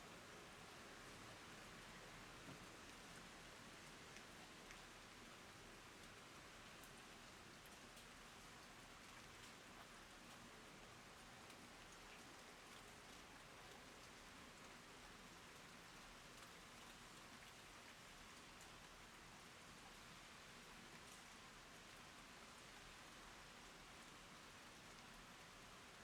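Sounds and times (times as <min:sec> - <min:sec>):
faint rain hiss: 0:00.0 - 0:26.0.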